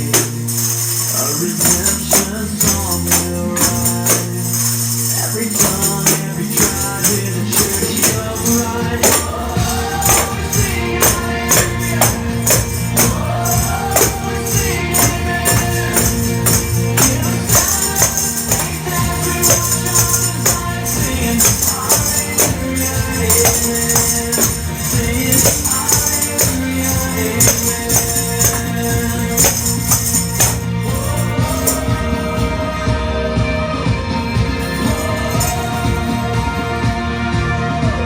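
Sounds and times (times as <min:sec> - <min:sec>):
tambourine shaken and struck: 0:00.0 - 0:37.3
rock song with singing: 0:00.0 - 0:38.0.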